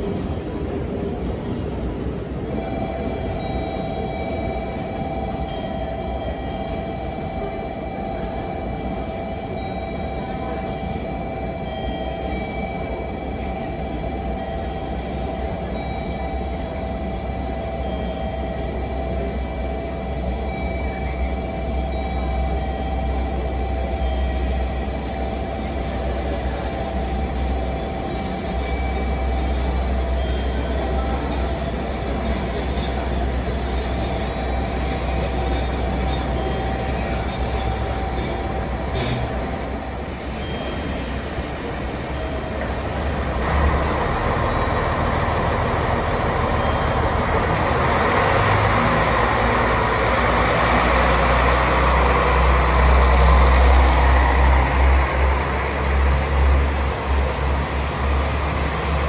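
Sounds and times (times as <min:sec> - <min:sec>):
diesel train engine rumbling: 0:00.0 - 0:59.0.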